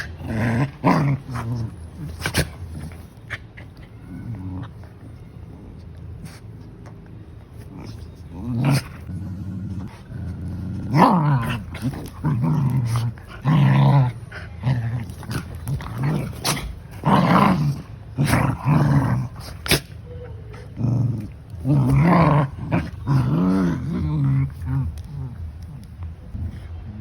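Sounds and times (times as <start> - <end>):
dogs growling in play: 0.0 - 27.0.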